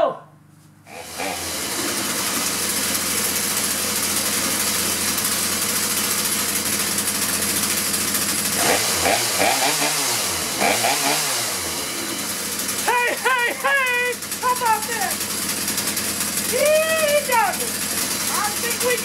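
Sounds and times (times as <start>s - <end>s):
chainsaw engine running and revving: 0.9s - 19.0s.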